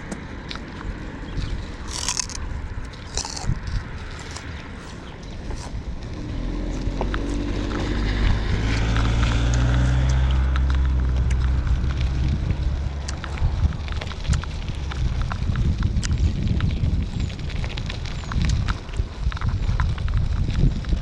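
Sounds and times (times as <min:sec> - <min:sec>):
vehicle engine running: 0:00.0 - 0:18.4.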